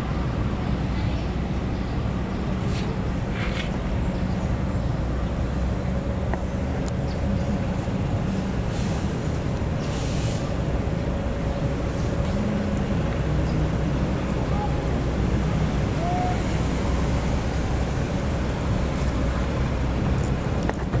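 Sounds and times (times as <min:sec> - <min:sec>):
city road traffic rumble: 0:00.0 - 0:21.0.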